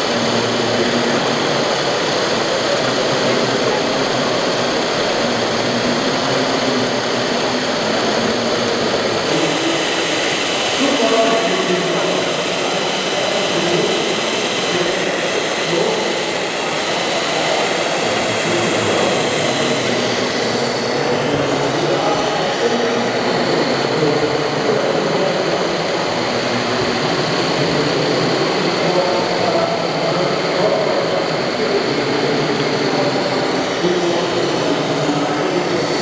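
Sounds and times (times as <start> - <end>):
crowd babble: 0.0 - 36.0
machine noise: 0.0 - 36.0.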